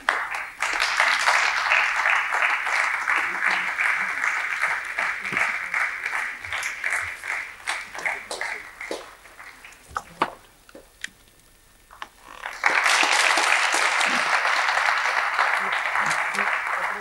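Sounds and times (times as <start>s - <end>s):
audience applauding: 0.0s - 10.2s, 12.2s - 17.0s.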